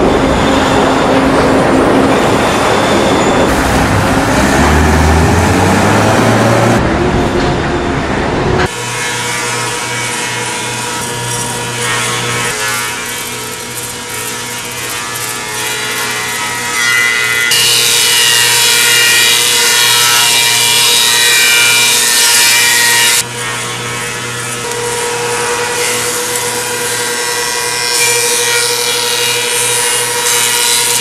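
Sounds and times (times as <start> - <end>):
woodworking machinery humming: 0.0 - 30.5
saw cutting through wood: 3.4 - 6.9, 8.6 - 31.0.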